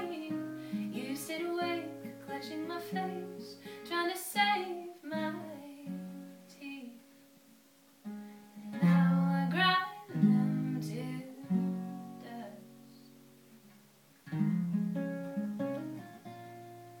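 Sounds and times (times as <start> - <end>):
acoustic guitar slow chords: 0.0 - 7.4, 8.0 - 17.0.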